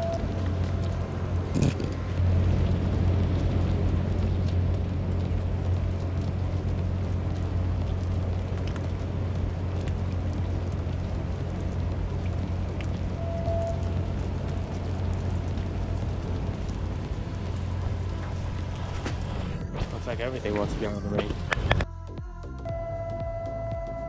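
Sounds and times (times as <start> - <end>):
rain falling on wet pavement: 0.0 - 21.9
low rumble: 0.0 - 24.0.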